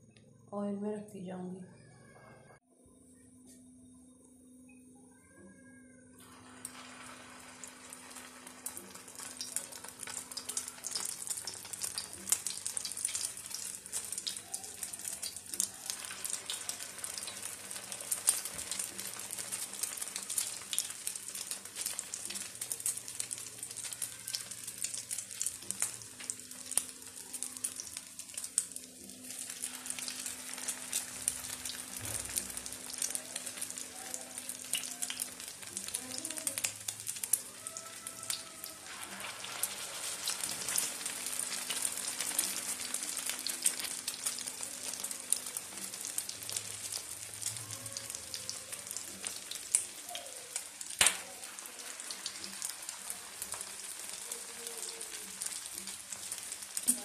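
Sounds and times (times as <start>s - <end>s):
oil sizzling and popping: 6.2s - 57.0s.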